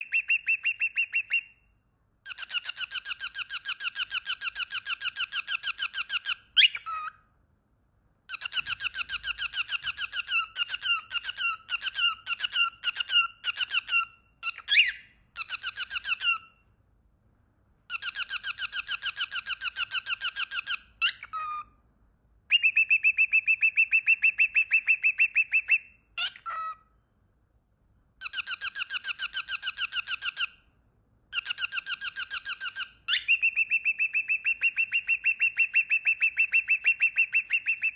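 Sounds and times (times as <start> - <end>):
bird singing in rapid trills: 0.0 - 1.6, 2.3 - 7.2, 8.3 - 16.6, 17.9 - 21.7, 22.5 - 26.8, 28.2 - 30.6, 31.3 - 37.9.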